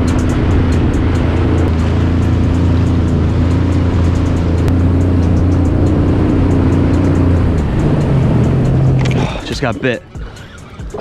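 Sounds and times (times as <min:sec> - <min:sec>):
watercraft engine running: 0:00.0 - 0:11.0.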